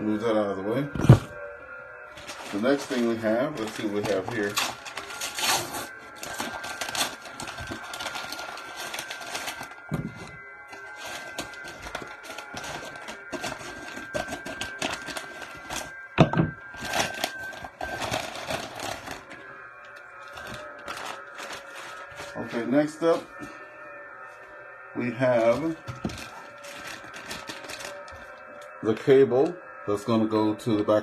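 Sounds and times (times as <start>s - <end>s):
packaging crinkling and rustling: 2.1s - 16.0s, 16.6s - 23.6s, 25.3s - 29.6s.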